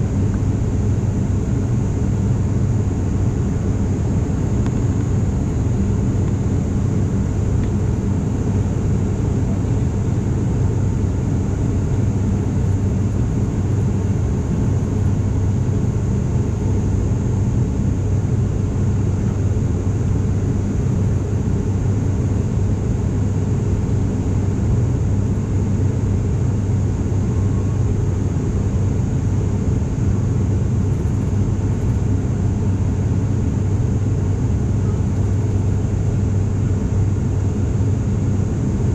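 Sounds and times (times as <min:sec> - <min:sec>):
propeller drone in cabin: 0:00.0 - 0:38.9.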